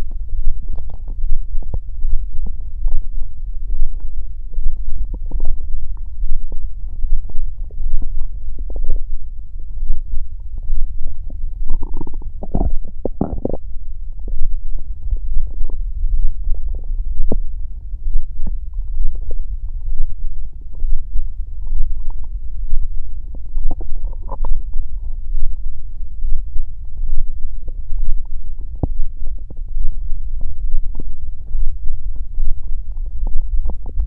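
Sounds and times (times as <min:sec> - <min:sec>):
stomach growling and gurgling: 0:00.0 - 0:34.0.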